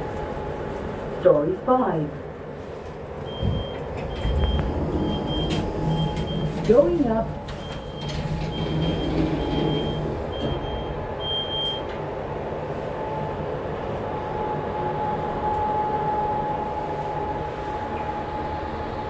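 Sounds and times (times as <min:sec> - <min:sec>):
lift car rumbling: 0:02.8 - 0:19.0.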